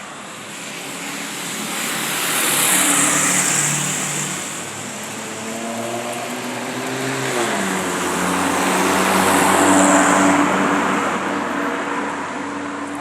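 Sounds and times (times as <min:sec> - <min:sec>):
vehicles passing close by: 0:00.0 - 0:13.0.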